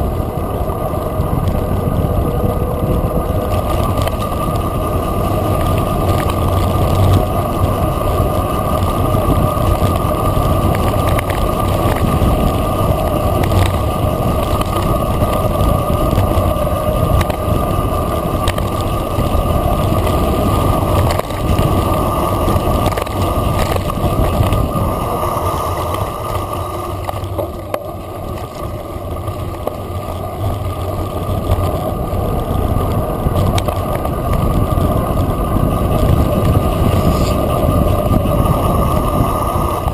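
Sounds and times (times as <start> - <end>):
bike rattles and knocks: 0.0 - 39.9
bike tyre noise on gravel: 0.0 - 39.9
wind rushing on microphone: 0.0 - 39.9.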